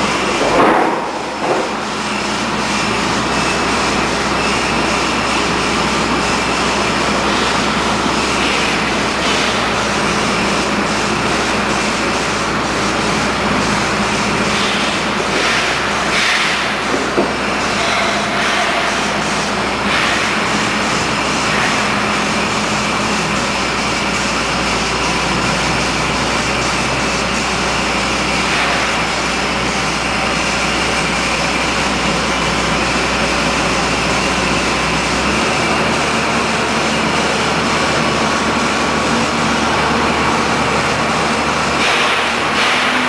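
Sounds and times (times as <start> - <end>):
drilling rig engine running: 0.0 - 43.0.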